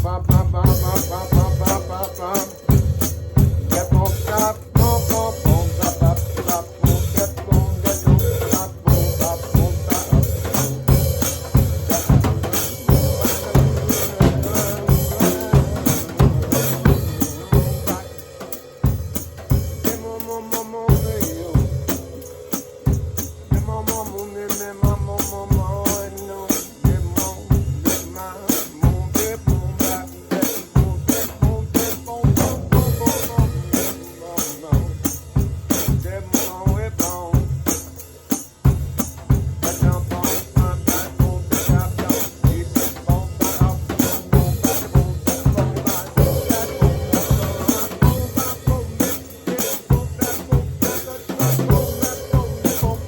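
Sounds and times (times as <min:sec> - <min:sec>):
drum kit groove: 0:00.0 - 0:53.0.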